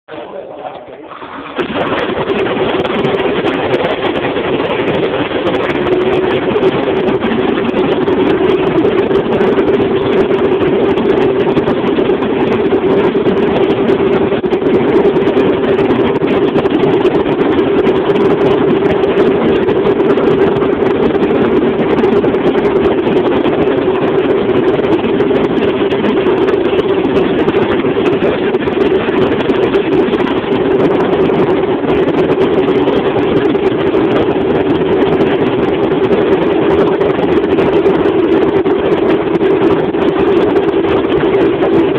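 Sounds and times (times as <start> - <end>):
car engine running steadily: 1.5 - 41.9.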